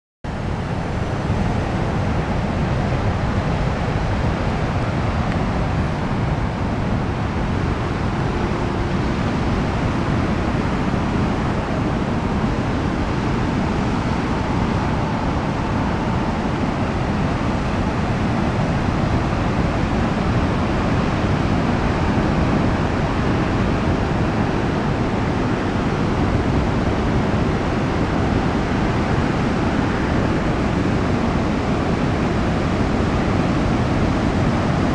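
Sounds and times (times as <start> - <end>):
surf washing over rocky beach: 0.4 - 34.9.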